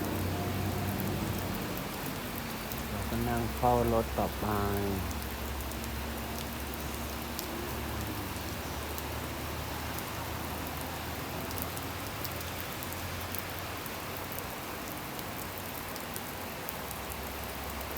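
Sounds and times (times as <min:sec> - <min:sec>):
heavy rain downpour: 0:00.0 - 0:17.9
raindrops ticking close by: 0:00.0 - 0:17.9.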